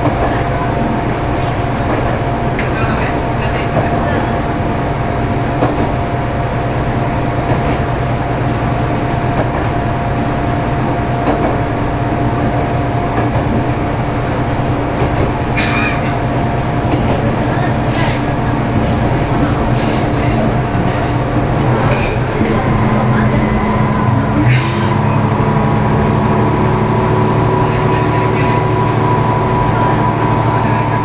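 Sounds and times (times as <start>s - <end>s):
diesel railcar engine drone: 0.0s - 31.0s.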